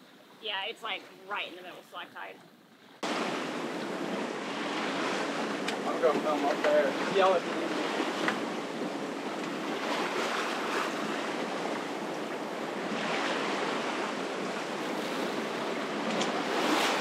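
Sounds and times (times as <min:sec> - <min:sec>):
water splashing along boat hull: 0:00.0 - 0:17.0.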